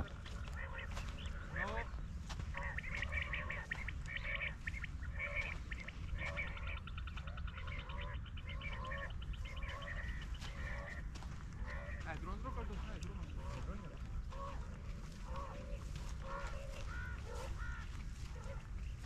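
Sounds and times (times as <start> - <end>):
birds calling and chirping: 0.0 - 19.0
steady low rumble: 0.0 - 19.0.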